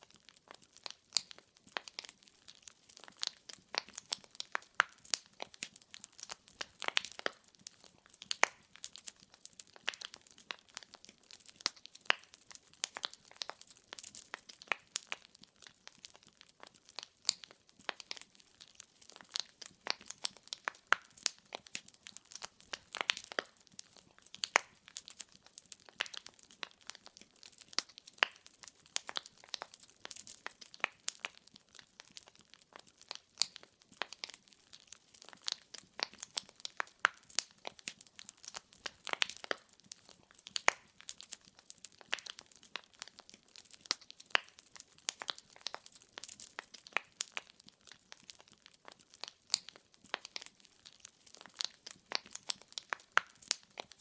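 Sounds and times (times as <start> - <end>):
logs crackling and popping: 0.0 - 54.0.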